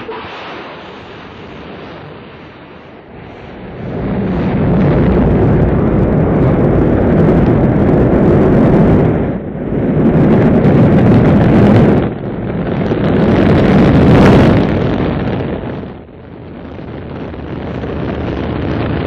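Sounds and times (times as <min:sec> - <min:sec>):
rocket engines rumbling: 0:00.0 - 0:19.0.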